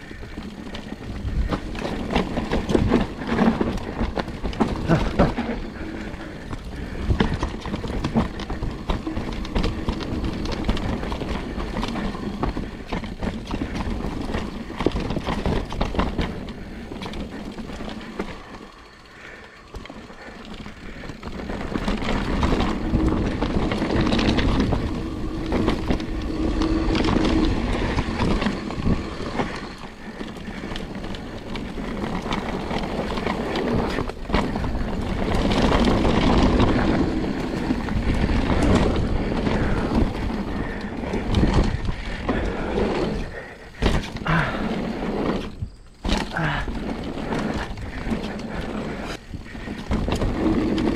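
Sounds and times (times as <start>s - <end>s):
bike rattling over bumps: 0.0s - 50.9s
bike tyres rolling on dirt: 0.0s - 50.9s.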